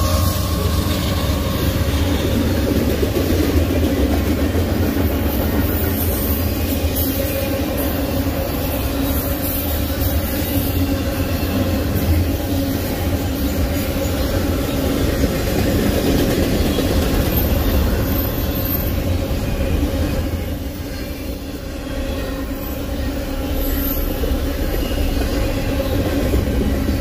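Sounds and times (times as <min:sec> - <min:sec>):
train wheels rumbling and rattling: 0:00.0 - 0:27.0.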